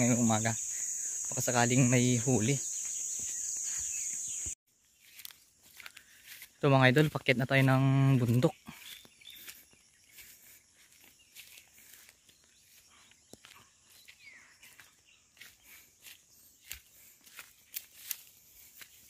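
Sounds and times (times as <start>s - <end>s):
footsteps crunching through dry grass: 1.3s - 19.0s.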